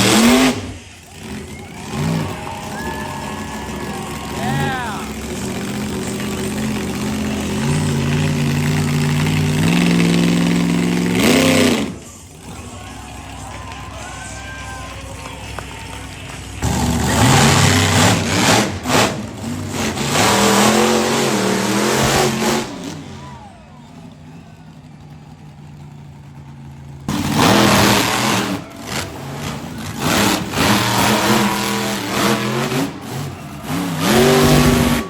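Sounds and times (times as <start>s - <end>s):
truck engine revving hard: 0.0s - 35.0s.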